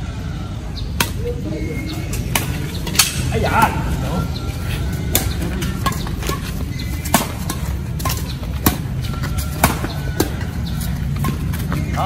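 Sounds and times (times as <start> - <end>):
rackets hitting shuttlecock: 0.9 - 3.8, 4.8 - 12.0.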